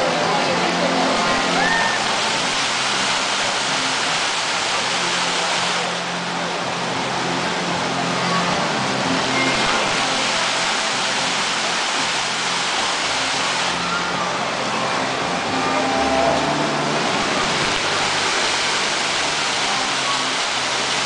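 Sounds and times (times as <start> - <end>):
fountain water splashing into pool: 0.0 - 21.0.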